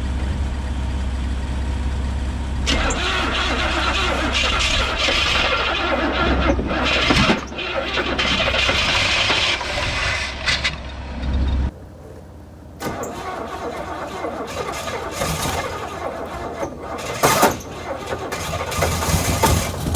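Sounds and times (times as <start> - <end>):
car engine running rough: 0.0 - 19.9.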